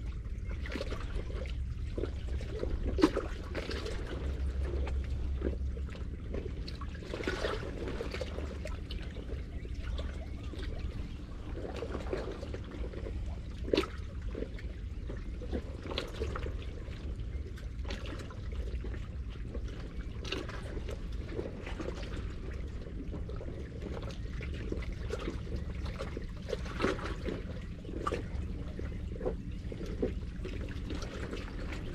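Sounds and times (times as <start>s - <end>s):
low rumble: 0.0s - 31.9s
seawater sloshing among rocks: 0.0s - 31.9s
small water splashes: 0.0s - 31.9s.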